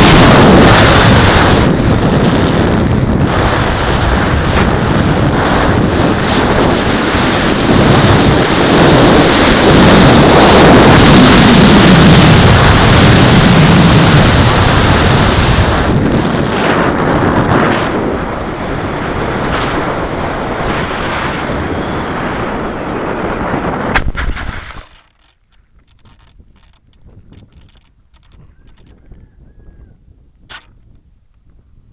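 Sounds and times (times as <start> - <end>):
wind buffeting microphone: 0.0 - 24.9, 25.5 - 31.9
electric motor and propeller: 0.0 - 29.2, 30.5 - 31.4.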